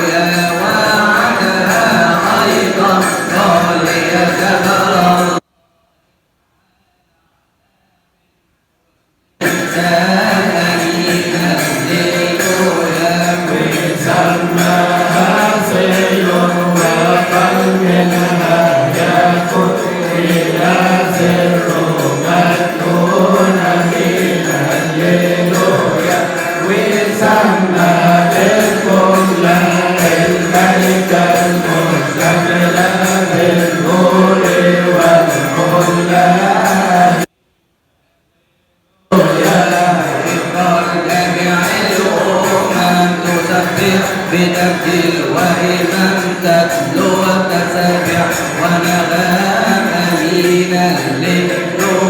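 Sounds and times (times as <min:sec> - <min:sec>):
chanted hymn melody: 0:00.0 - 0:05.4, 0:09.4 - 0:37.3, 0:39.1 - 0:52.0
jingling percussion: 0:00.0 - 0:05.4, 0:09.4 - 0:37.3, 0:39.1 - 0:52.0.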